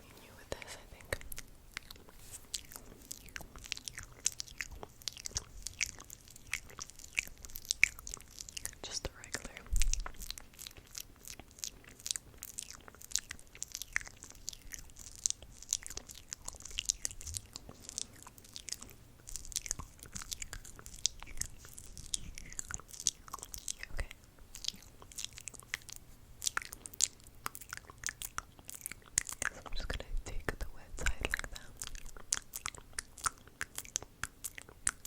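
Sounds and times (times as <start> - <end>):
wet mouth clicks and smacks: 0.6 - 35.0.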